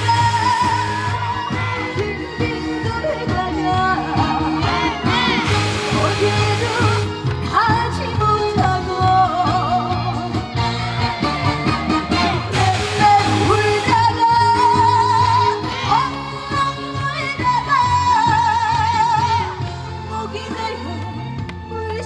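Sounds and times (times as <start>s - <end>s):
band accompaniment: 0.0s - 22.0s
woman singing with vibrato: 0.0s - 22.0s.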